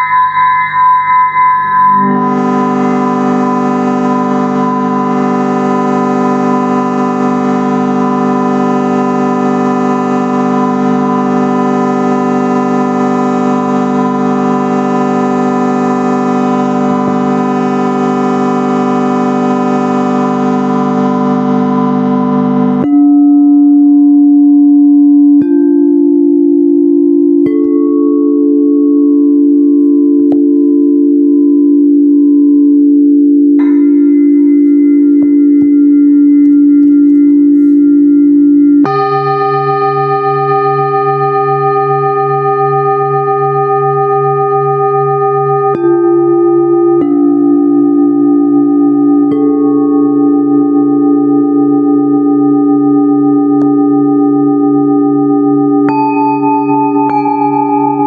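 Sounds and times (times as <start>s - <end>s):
drone of ringing tones: 0.0s - 58.0s
pure wavering tones: 0.0s - 58.0s.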